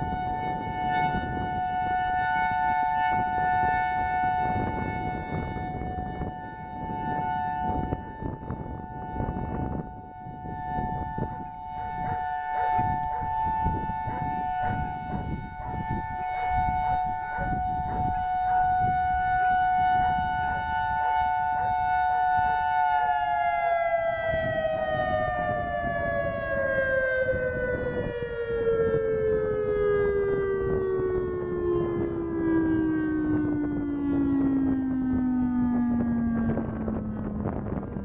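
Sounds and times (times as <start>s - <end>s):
warning siren two-note chord: 0.0s - 38.0s
wind noise on microphone: 0.0s - 38.0s.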